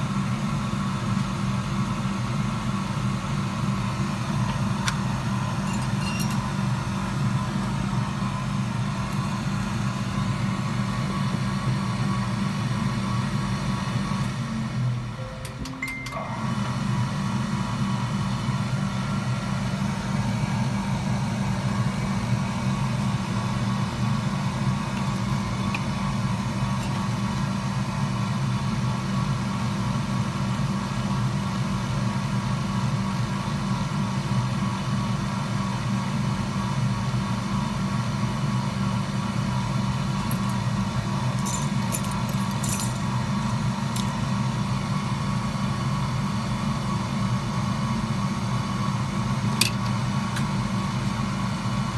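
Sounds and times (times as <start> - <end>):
low machine hum: 0.0 - 51.9.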